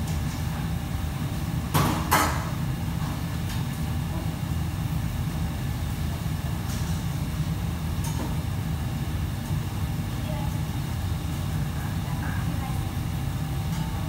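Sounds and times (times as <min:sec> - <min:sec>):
kitchen equipment low rumble: 0:00.0 - 0:14.0.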